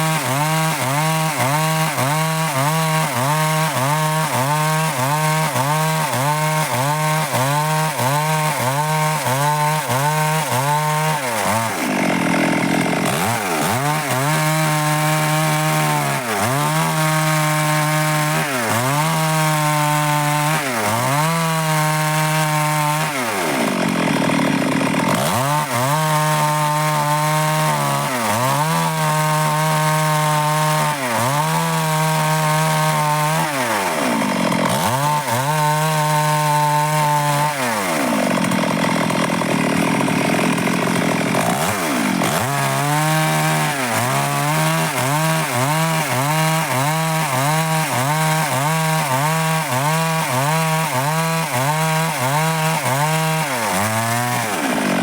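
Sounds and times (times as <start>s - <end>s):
chainsaw cutting dry wood: 0.0s - 55.0s.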